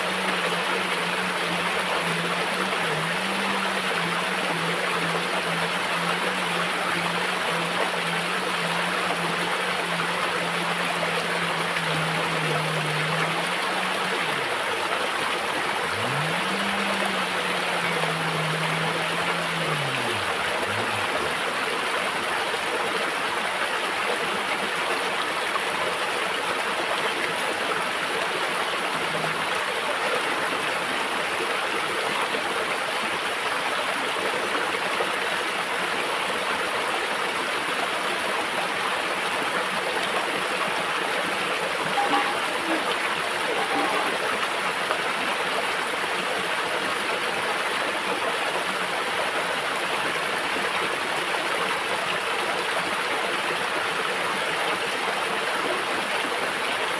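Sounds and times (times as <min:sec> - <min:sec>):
stream running over rocks: 0:00.0 - 0:56.9.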